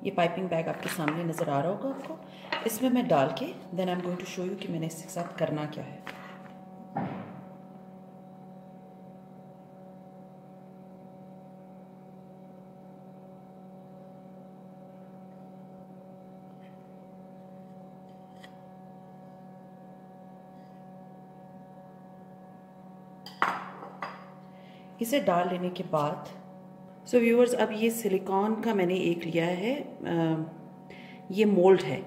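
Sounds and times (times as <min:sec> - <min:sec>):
steady tonal hum: 0:00.0 - 0:09.7, 0:14.9 - 0:32.0.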